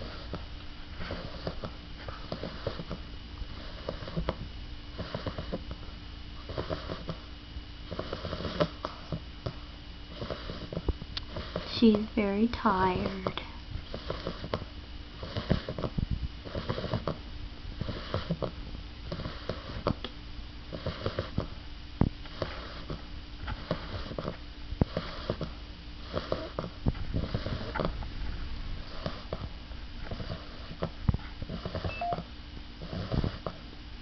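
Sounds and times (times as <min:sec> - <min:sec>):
puppy snoring: 0:00.0 - 0:20.1, 0:20.7 - 0:21.6, 0:22.2 - 0:28.0, 0:28.8 - 0:33.6.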